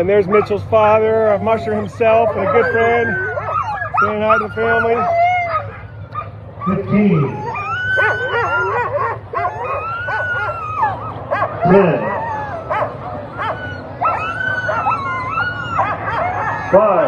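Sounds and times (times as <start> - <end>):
dogs whining and howling: 0.0 - 17.0
dogs yipping: 0.0 - 17.0.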